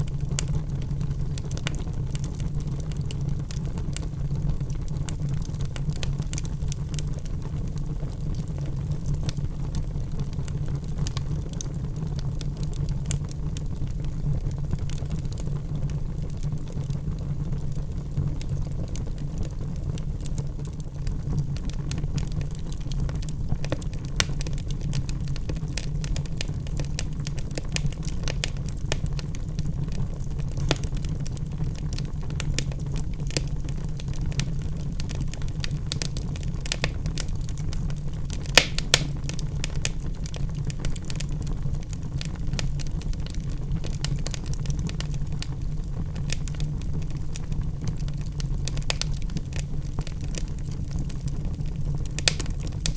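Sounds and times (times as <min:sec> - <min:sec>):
low fire rumble: 0:00.0 - 0:52.9
wood fire crackling and popping: 0:00.0 - 0:52.9.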